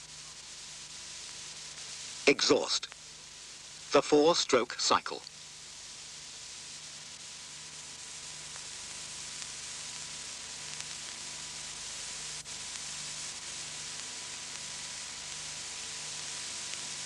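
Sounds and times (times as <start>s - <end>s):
faint hum: 0.0s - 17.0s
tape hiss: 0.0s - 17.0s.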